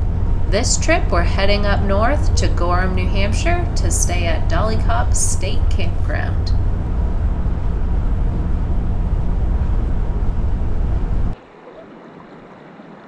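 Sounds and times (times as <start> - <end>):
vehicle road and wind rumble: 0.0 - 11.4.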